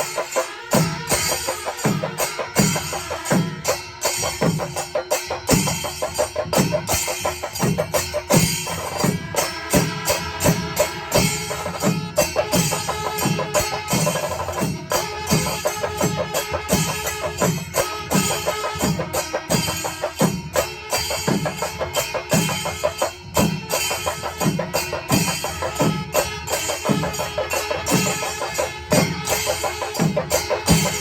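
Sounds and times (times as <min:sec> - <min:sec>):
cymbals clashing: 0:00.0 - 0:31.0
drums beating steady rhythm: 0:00.0 - 0:31.0.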